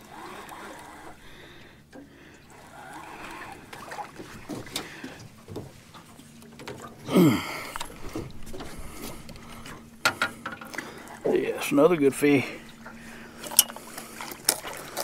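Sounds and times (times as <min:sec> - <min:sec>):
fish thrashing and splashing: 0:00.0 - 0:11.3, 0:12.6 - 0:15.0.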